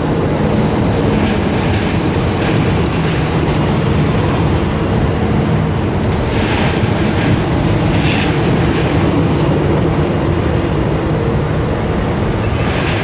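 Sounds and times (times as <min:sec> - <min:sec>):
wheels clacking over rail joints: 0:00.0 - 0:11.0, 0:12.3 - 0:13.0
train wheels rumbling on rail: 0:00.0 - 0:13.0.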